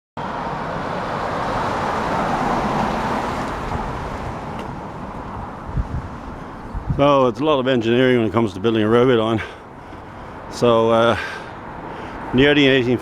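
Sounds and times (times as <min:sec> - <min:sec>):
road vehicle passing by: 0:00.2 - 0:13.0.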